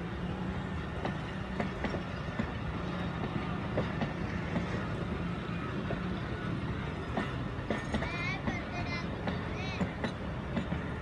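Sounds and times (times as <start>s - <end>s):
train wheels clacking over rail joints: 0.3s - 11.0s.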